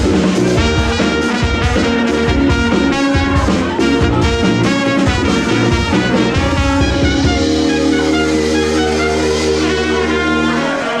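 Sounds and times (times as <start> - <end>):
drum hits: 0.0 - 9.6
brass band playing: 0.0 - 11.0.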